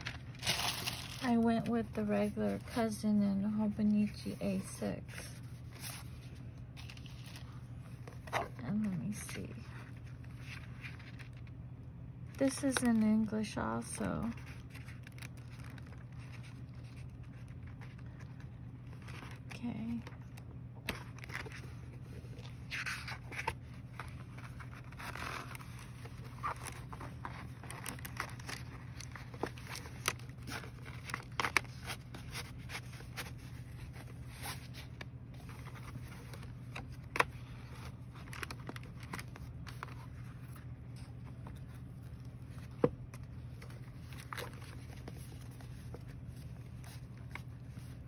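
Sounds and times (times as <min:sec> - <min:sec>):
packaging rustling and scraping: 0:00.0 - 0:11.6, 0:12.3 - 0:48.0
steady low hum: 0:00.0 - 0:48.0.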